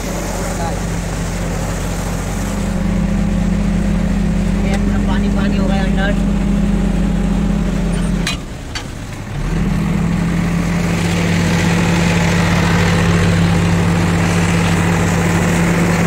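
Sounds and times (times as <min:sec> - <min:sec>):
diesel engine running: 0:00.0 - 0:16.0
water splashing and churning: 0:00.0 - 0:16.0.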